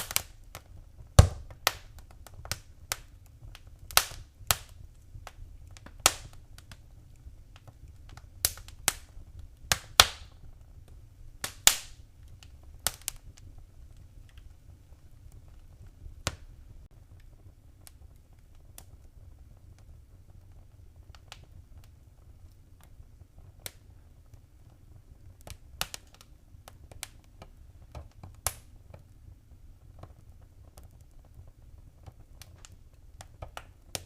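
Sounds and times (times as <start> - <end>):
faint low rumble: 0.0 - 34.0
wood fire crackling: 0.0 - 34.0.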